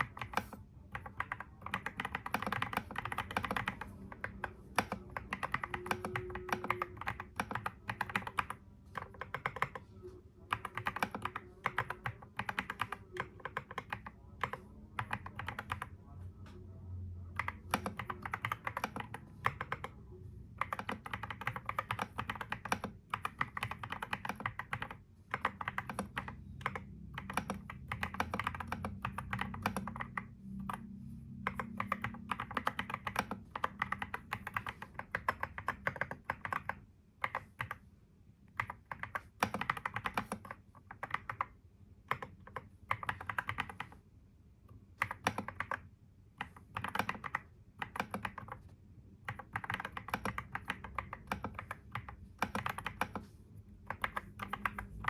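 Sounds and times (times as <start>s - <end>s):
computer keyboard typing: 0.0s - 16.1s, 17.2s - 37.9s, 38.5s - 44.0s, 44.9s - 55.0s
faint low hum: 0.0s - 55.0s.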